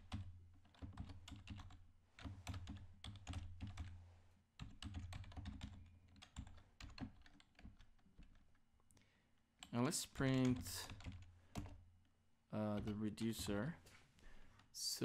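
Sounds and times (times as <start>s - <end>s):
faint keyboard typing: 0.0s - 4.0s, 4.6s - 13.8s.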